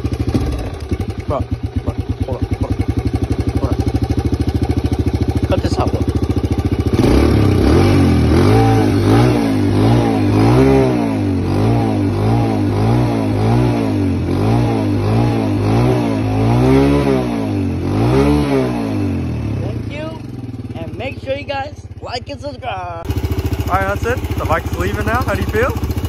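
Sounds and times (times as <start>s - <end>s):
dirt bike engine revving: 0.0s - 21.6s, 23.0s - 26.0s.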